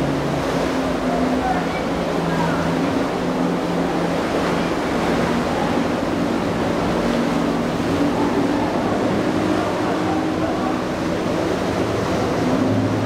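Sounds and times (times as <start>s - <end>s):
outboard engines droning: 0.0s - 13.0s
rough surf churning: 0.0s - 13.0s.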